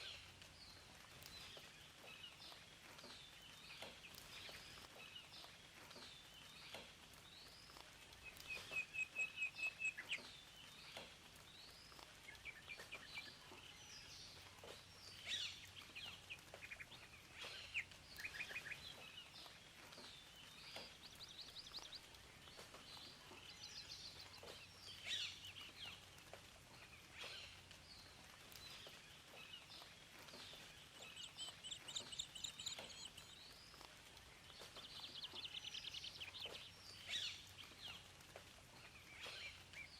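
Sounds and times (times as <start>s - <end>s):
faint steady hiss: 0.0s - 39.9s
songbirds chirping and singing: 0.0s - 39.9s.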